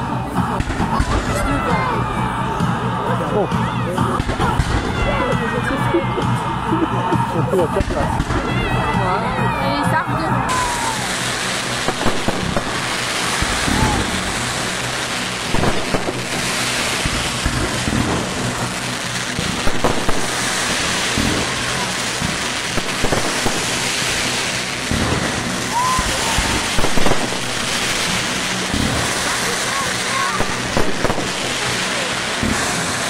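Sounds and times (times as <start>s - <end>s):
fireworks bangs and thumps: 0.0s - 33.0s
fireworks hiss and crackle: 0.0s - 33.0s.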